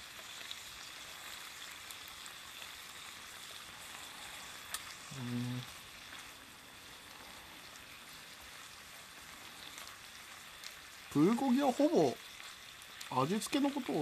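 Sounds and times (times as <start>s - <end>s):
beef sizzling on a hot plate: 0.0s - 14.0s.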